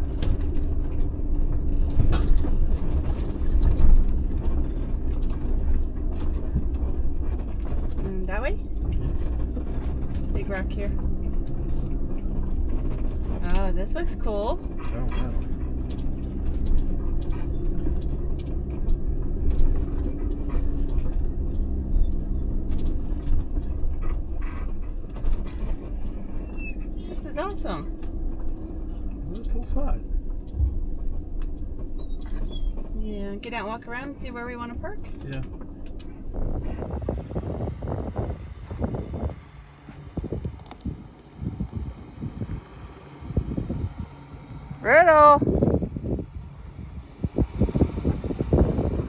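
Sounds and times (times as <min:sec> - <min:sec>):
knocks and rattles: 0:00.0 - 0:42.8
engine and tyres rumbling: 0:00.0 - 0:49.0.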